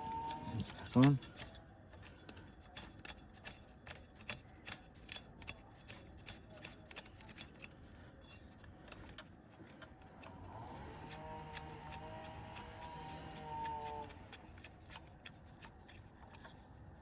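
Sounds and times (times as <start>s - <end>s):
nut spinning onto threaded shaft: 0.0s - 16.7s.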